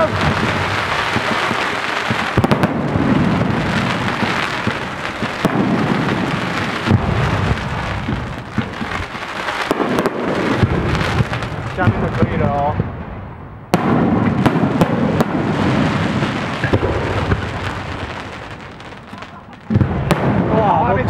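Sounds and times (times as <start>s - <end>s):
aerial shells booming: 0.0s - 21.0s
fireworks fountains hissing and crackling: 0.0s - 21.0s
fireworks sharp bangs: 0.0s - 21.0s.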